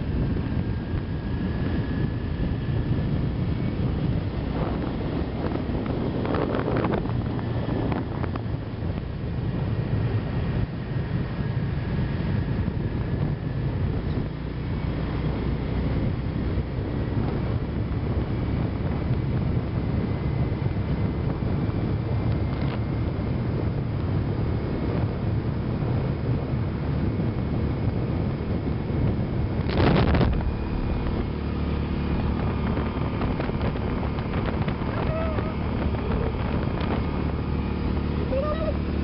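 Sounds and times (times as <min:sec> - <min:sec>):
car driving on paved road: 0:00.0 - 0:39.0
wind buffeting microphone: 0:00.0 - 0:39.0.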